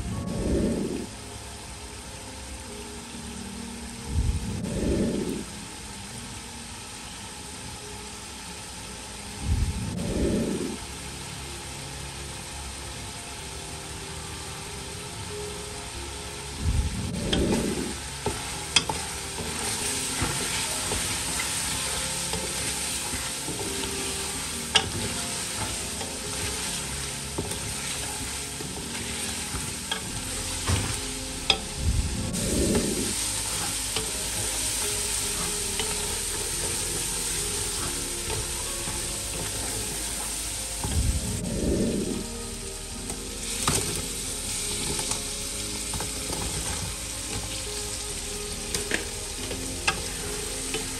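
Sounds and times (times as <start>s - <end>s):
curry sizzling in a pot: 0.0s - 50.9s.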